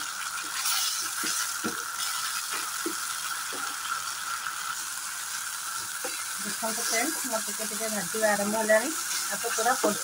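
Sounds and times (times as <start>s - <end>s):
mushrooms sizzling in oil: 0.0s - 10.0s.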